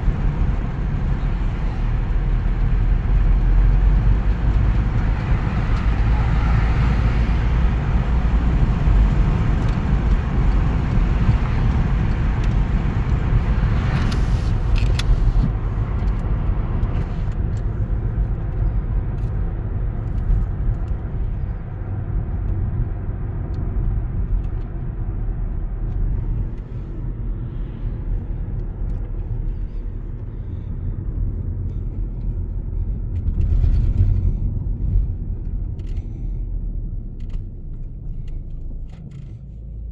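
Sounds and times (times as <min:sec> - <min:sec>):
engine and road noise rumble: 0:00.0 - 0:39.9.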